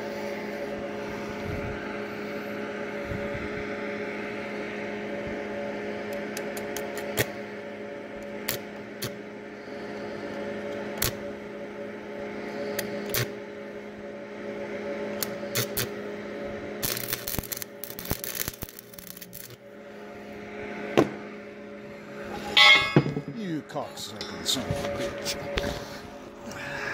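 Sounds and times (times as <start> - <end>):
steady electrical hum: 0.0 - 26.9.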